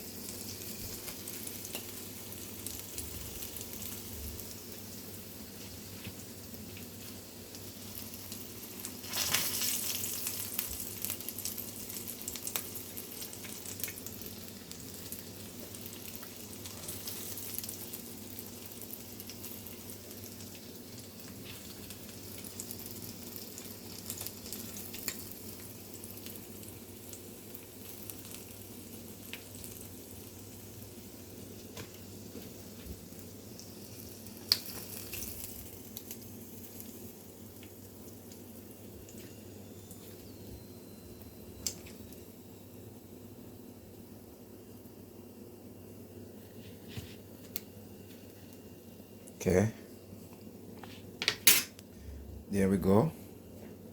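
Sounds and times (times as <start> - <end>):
oil sizzling in a frying pan: 0.0 - 49.3.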